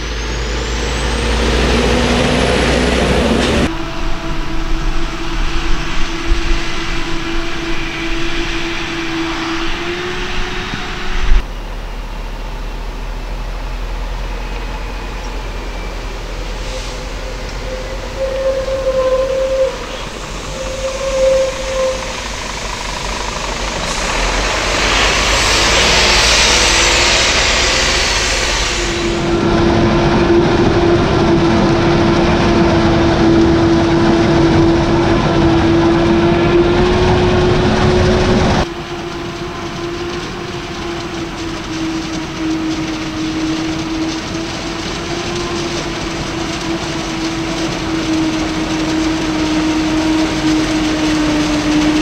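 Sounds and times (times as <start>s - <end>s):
heavy diesel machinery droning: 0.0s - 52.0s.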